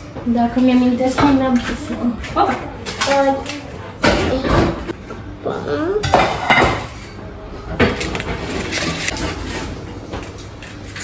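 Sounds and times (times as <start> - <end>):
dishes and utensils clattering: 0.0 - 5.0, 6.0 - 11.0.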